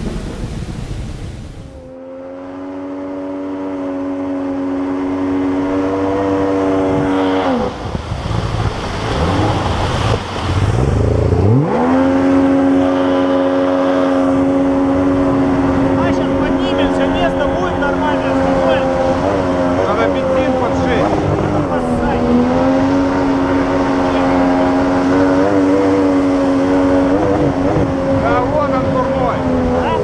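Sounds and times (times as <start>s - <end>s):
water rushing past hull: 0.0s - 30.0s
water-jet boat motor: 0.0s - 30.0s.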